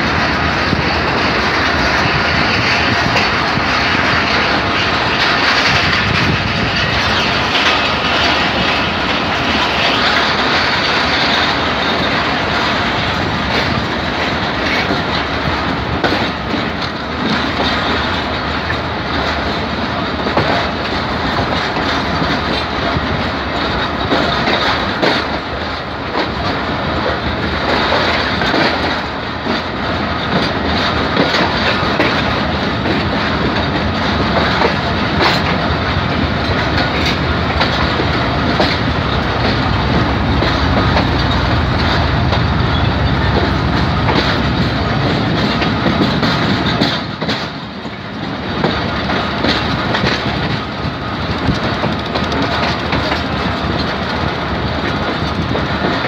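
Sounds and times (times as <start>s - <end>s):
passenger train rumbling: 0.0s - 56.0s
wheels clicking over rail joints: 0.0s - 56.0s.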